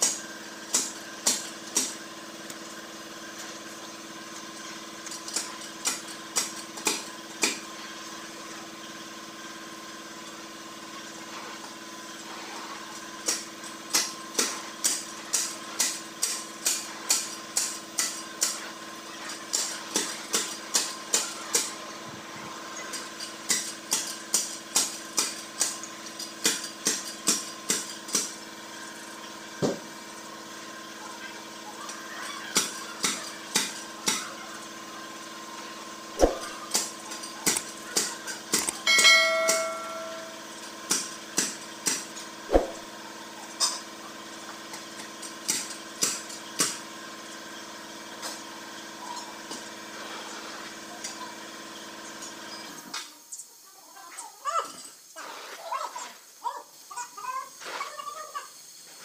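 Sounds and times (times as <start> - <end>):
steady machine hum: 0.0 - 52.5.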